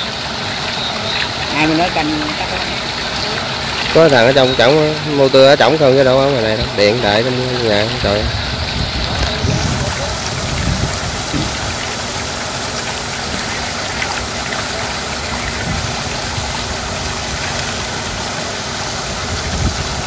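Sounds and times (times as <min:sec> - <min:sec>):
water rushing and splashing: 0:00.0 - 0:20.0.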